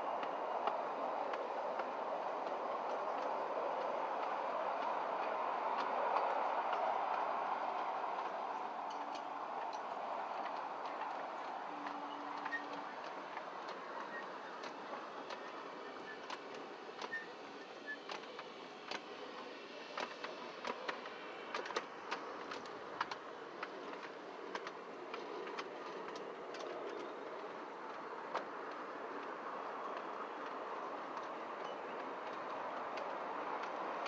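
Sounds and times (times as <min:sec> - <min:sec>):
miniature steam train running: 0:00.0 - 0:34.0
sharp clicks and clacks: 0:00.2 - 0:34.0.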